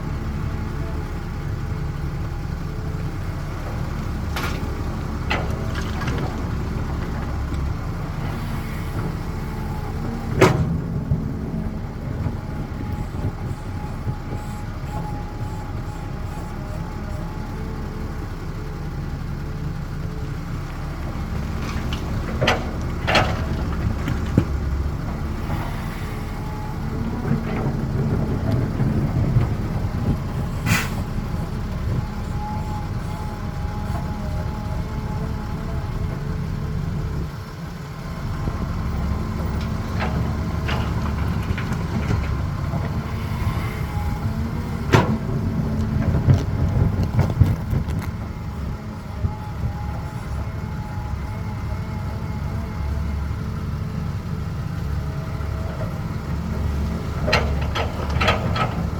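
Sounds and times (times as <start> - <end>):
excavator diesel engine: 0.0 - 58.9.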